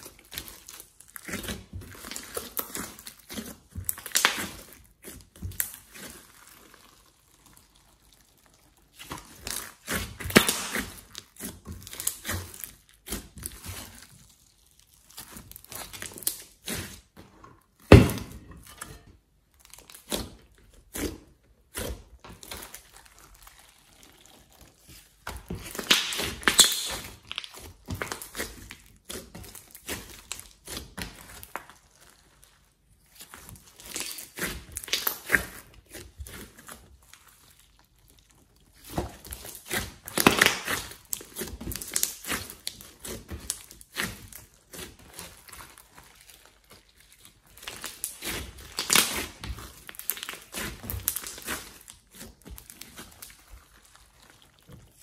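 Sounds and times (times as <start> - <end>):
slime crackling and popping: 0.0 - 55.0
slime squishing: 0.0 - 55.0.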